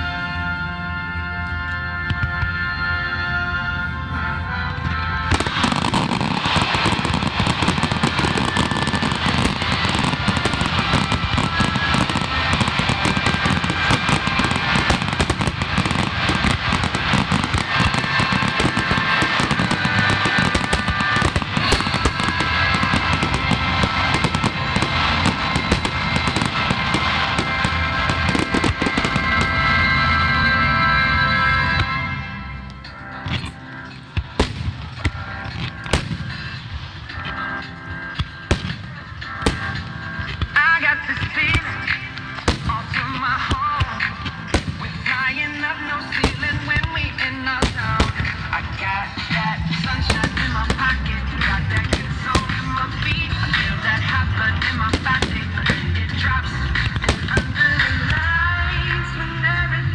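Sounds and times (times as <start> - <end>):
music with steady tones: 0.0 - 59.9
fireworks crackling: 5.3 - 32.1, 34.2 - 58.4.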